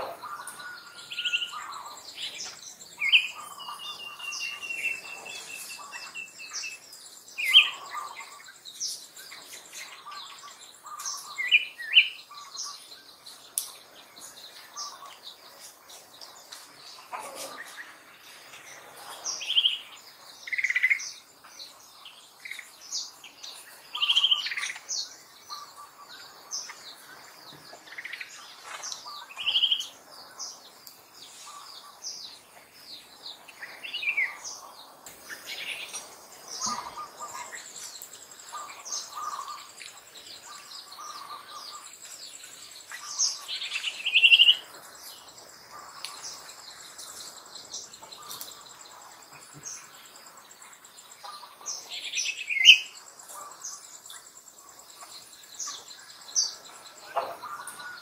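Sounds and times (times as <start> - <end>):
birds chirping and calling: 0.0 - 58.0.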